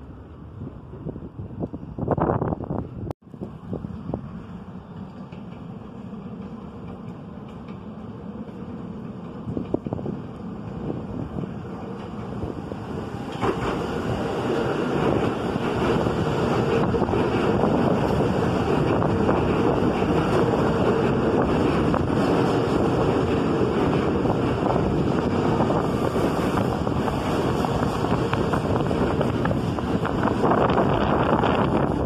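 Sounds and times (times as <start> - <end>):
subway train wheels rumbling: 0.0 - 32.0.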